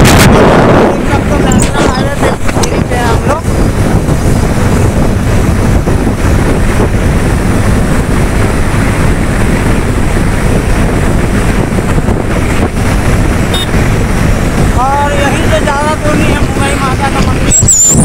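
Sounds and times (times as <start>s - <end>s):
motorcycle engine: 0.0s - 18.0s
wind rushing over microphone: 0.0s - 18.0s.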